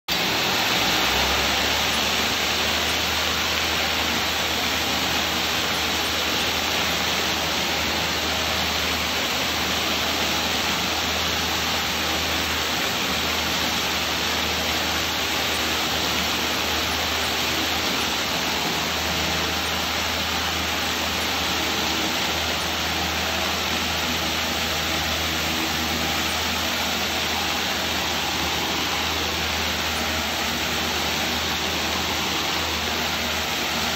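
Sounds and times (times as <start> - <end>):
hiss of pressurized water jets: 0.1 - 33.9
low machine hum: 0.1 - 33.9.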